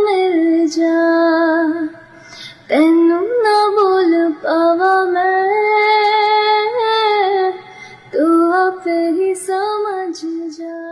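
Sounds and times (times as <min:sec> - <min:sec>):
woman singing love song: 0:00.0 - 0:10.9.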